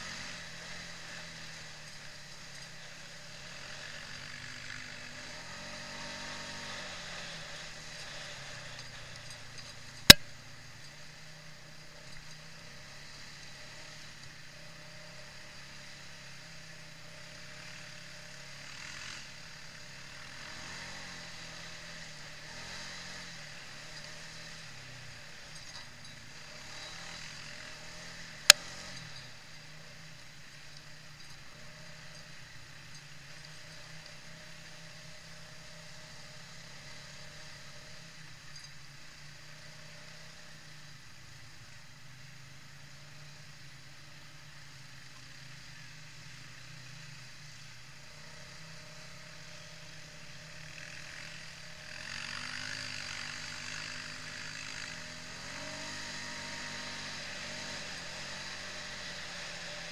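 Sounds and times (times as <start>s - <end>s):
quad bike engine: 0.0s - 59.9s.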